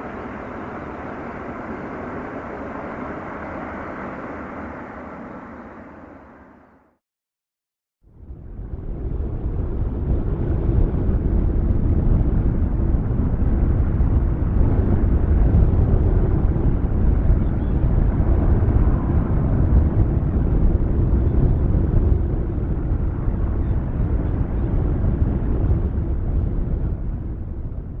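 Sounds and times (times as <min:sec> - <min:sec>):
distant jet engines rumbling: 0:00.0 - 0:07.0, 0:08.2 - 0:28.0.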